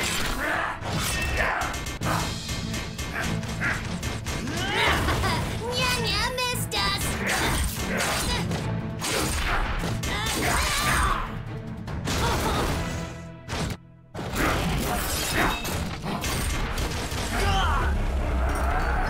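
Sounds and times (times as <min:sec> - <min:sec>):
dramatic music: 0:00.0 - 0:19.0.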